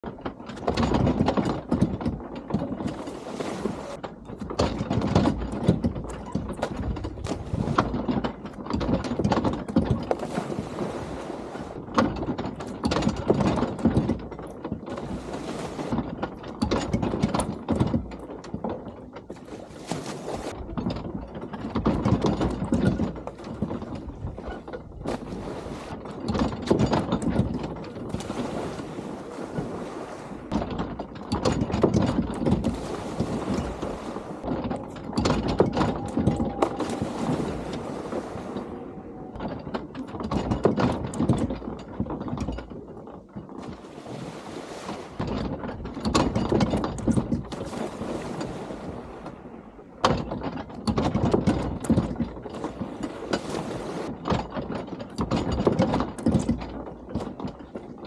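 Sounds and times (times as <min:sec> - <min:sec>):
wind buffeting microphone: 0:00.0 - 0:54.6
wooden dock knocking and creaking: 0:00.0 - 0:58.0.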